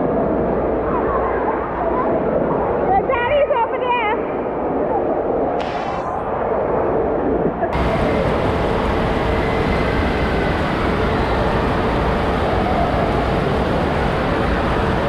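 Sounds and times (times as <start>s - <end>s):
surf churning in pool: 0.0s - 15.0s.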